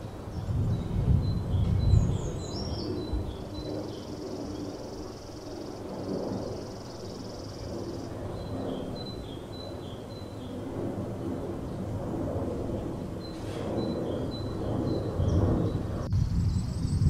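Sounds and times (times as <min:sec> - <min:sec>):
songbirds chirping: 0:00.0 - 0:11.9, 0:12.5 - 0:16.9.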